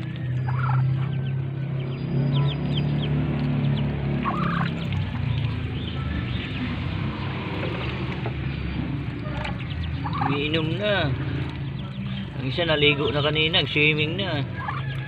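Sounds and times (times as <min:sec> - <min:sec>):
low hum: 0:00.0 - 0:12.4
ducklings peeping: 0:00.0 - 0:15.0.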